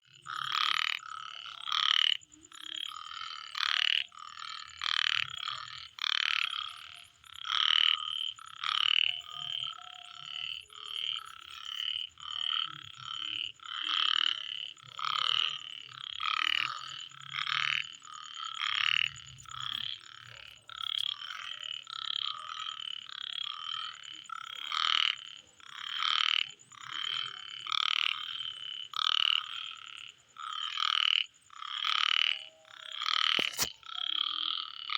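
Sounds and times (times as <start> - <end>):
frogs croaking: 0.0 - 34.9.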